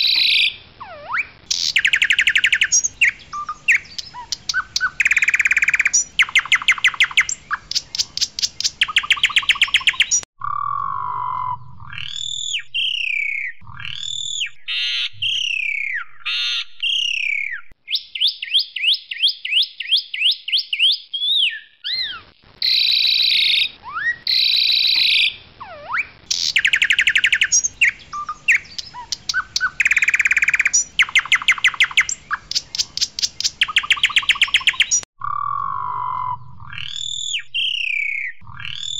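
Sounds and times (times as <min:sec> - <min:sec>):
starling singing: 0:00.0 - 0:19.2, 0:21.3 - 0:38.9.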